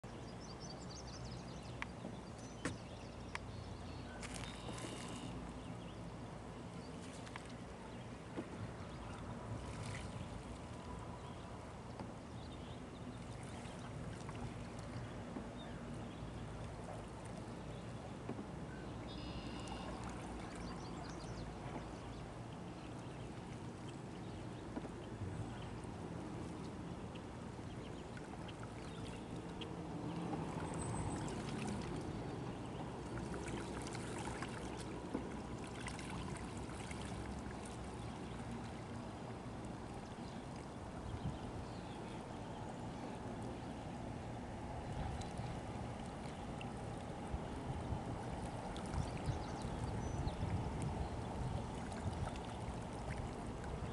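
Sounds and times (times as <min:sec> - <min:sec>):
paddle dipping and dripping: 0:00.0 - 0:53.9.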